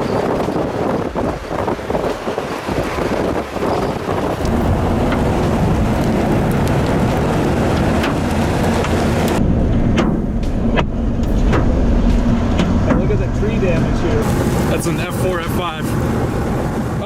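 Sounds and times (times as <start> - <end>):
moving vehicle rumble: 0.0 - 17.0
storm wind and rain: 0.0 - 17.0.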